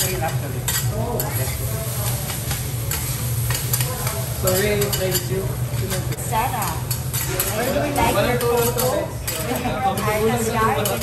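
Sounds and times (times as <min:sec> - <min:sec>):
metal spatulas scraping a griddle: 0:00.0 - 0:11.0
rice sizzling on a griddle: 0:00.0 - 0:11.0.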